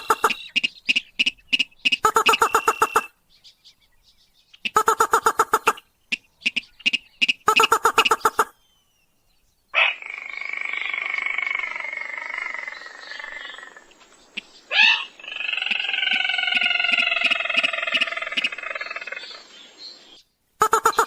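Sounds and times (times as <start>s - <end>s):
rail bird calls: 0.0s - 9.0s, 9.7s - 21.0s.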